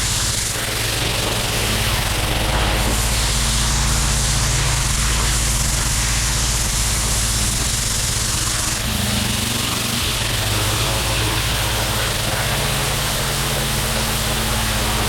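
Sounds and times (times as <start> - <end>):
pressure washer engine running: 0.0 - 15.0.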